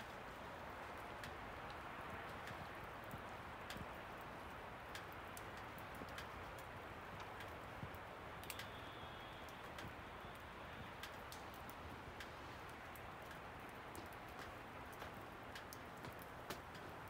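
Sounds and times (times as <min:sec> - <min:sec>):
light ticks of wet flakes: 0:00.0 - 0:17.0.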